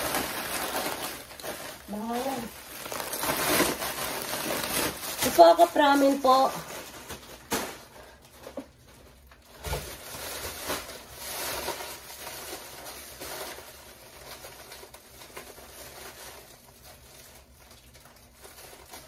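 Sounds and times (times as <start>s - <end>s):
plastic bag rustling: 0.0s - 19.0s.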